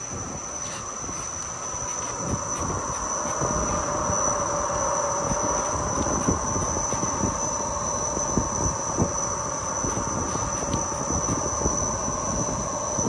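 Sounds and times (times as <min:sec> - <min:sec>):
mechanical hum: 0:00.0 - 0:13.0
steady high tone: 0:00.0 - 0:13.0.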